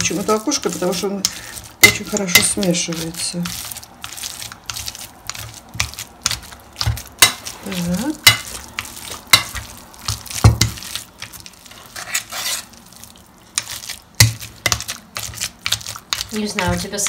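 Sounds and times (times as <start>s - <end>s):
potato masher mixing meat: 0.0s - 17.0s.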